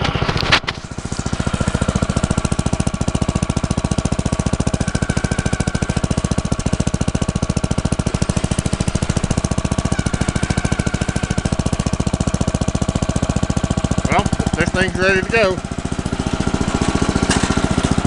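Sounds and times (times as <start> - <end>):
rototiller engine running: 0.0 - 18.0.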